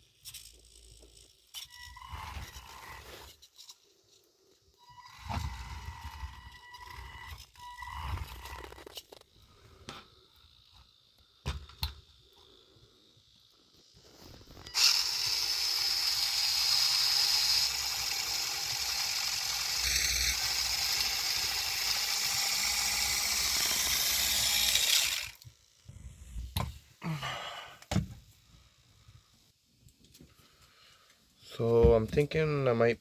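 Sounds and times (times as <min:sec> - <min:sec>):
electric motor and gearbox running: 0:00.0 - 0:26.7.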